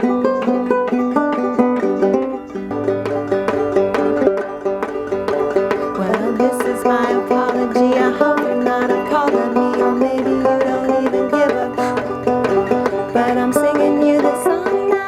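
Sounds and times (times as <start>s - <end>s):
banjo plucking: 0.0s - 15.0s.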